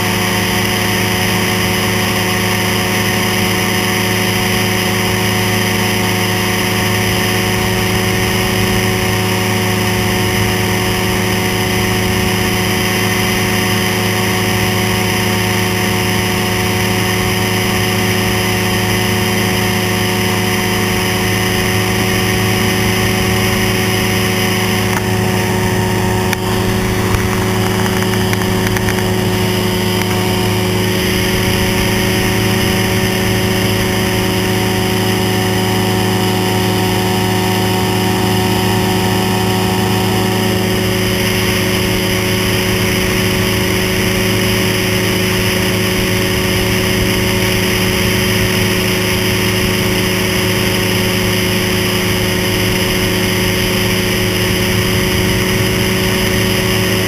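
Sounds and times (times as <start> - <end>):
aircraft engine running steadily: 0.0 - 57.0.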